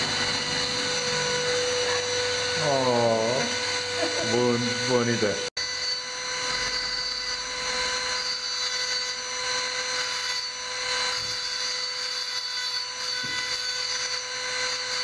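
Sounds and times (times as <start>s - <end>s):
rotary tool whining: 0.0s - 15.0s.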